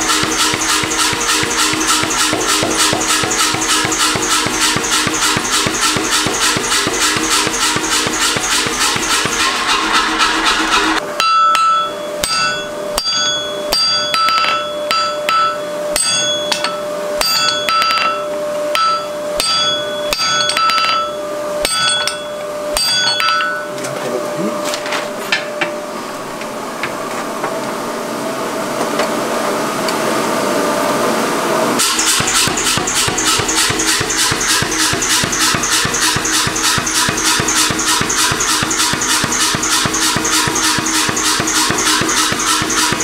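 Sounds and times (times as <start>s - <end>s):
hammer blows on hot iron: 0.0s - 23.7s, 31.8s - 43.0s.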